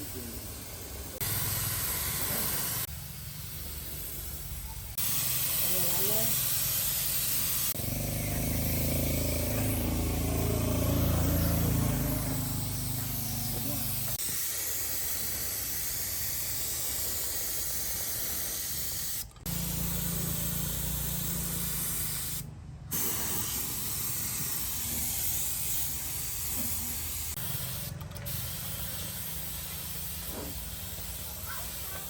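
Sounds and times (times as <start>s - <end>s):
compressed air hissing from nozzle: 0.0s - 32.0s.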